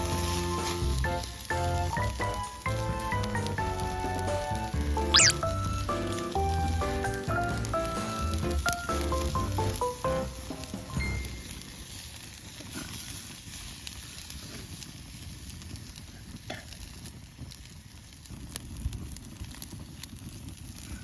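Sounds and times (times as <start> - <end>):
fire crackles and pops: 0.0 - 21.0
sizzling hiss: 0.0 - 21.0.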